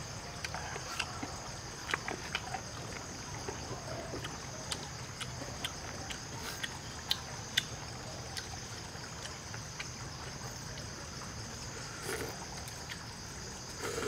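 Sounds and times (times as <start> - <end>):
high insect drone: 0.0 - 14.0
stream trickling: 0.0 - 14.0.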